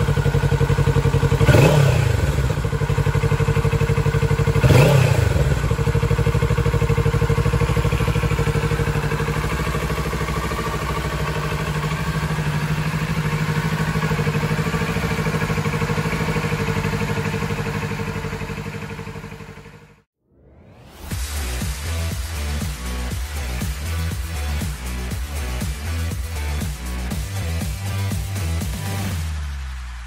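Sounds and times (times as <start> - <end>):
motorcycle engine idling: 0.0 - 20.1, 21.5 - 29.1.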